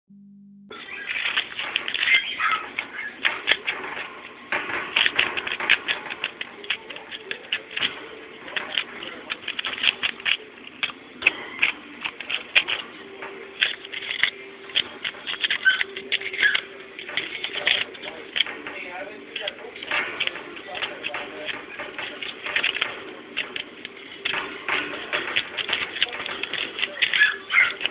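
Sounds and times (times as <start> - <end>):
paper crinkling: 0.8 - 27.9.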